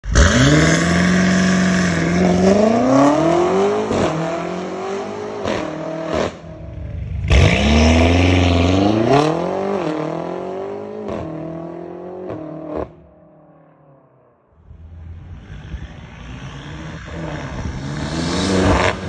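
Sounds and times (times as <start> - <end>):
car engine accelerating with upshifts: 0.0 - 13.1, 14.7 - 19.0.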